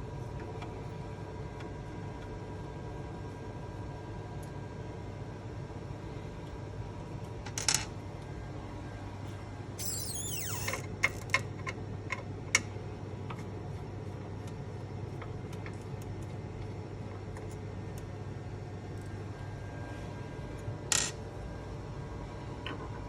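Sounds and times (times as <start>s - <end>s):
low equipment hum: 0.0s - 23.0s.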